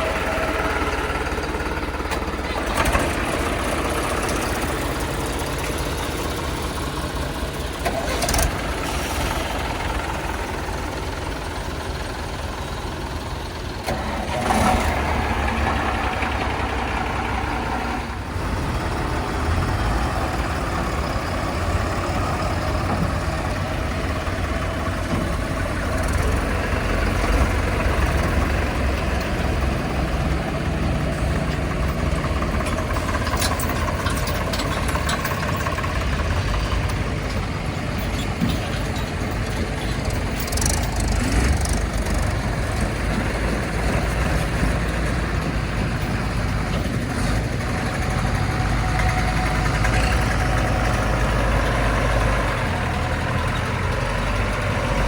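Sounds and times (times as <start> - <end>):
heavy diesel engine rumbling: 0.0 - 55.0.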